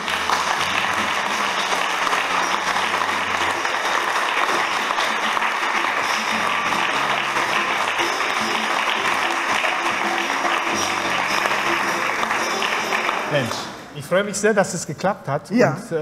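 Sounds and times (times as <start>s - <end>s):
instrumental music: 0.0s - 13.5s
audience applauding: 0.0s - 13.8s.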